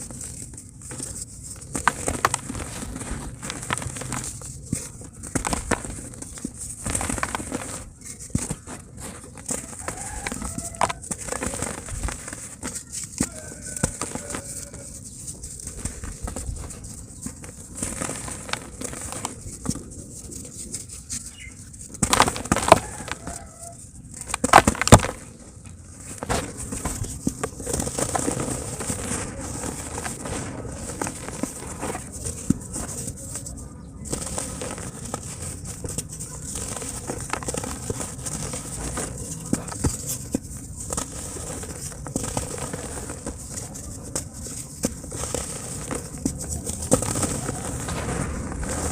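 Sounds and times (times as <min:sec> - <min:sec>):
dry cement crumbling: 0:00.0 - 0:48.9.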